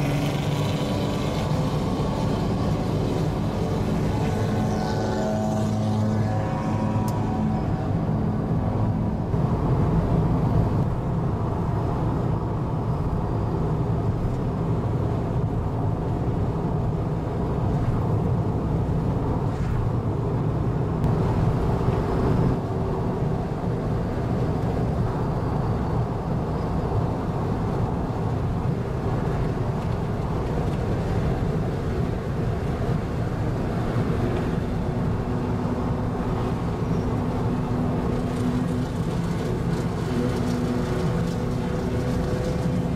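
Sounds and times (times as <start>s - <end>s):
low car engine drone: 0.0s - 42.9s
road noise: 0.0s - 42.9s.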